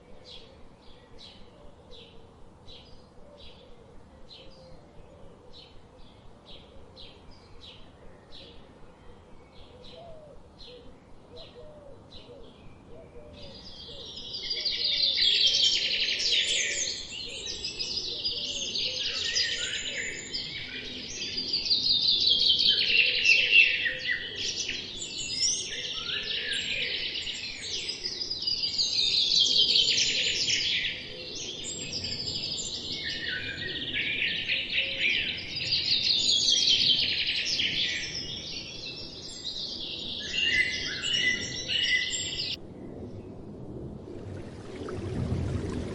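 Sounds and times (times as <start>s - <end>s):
songbird chirps and song: 0.0s - 45.8s.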